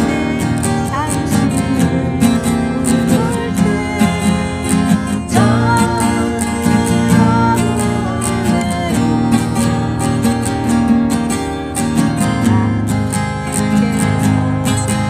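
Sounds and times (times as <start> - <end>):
woman singing: 0.0 - 9.9, 11.9 - 15.0
acoustic guitars strummed: 0.0 - 15.0.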